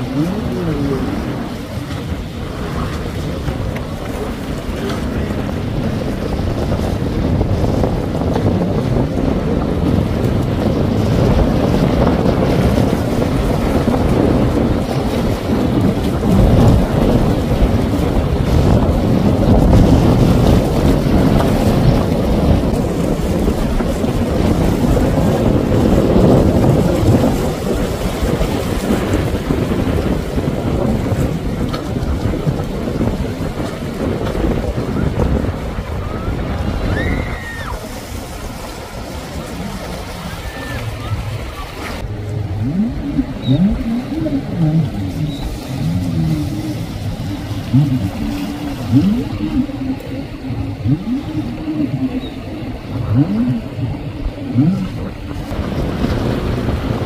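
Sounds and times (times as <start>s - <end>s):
jet ski engine: 0.0s - 57.0s
water splashing: 0.0s - 57.0s
wind buffeting microphone: 0.0s - 57.0s.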